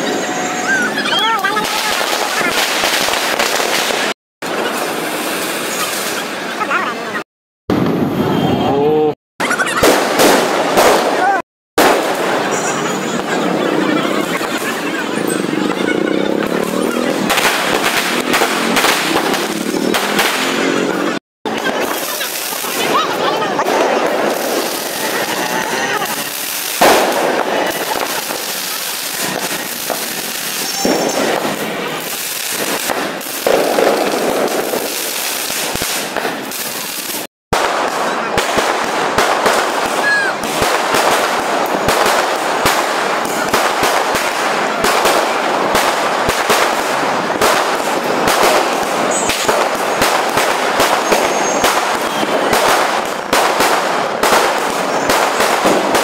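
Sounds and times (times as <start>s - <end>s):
fireworks crackling and banging: 0.0s - 8.6s, 9.4s - 56.0s.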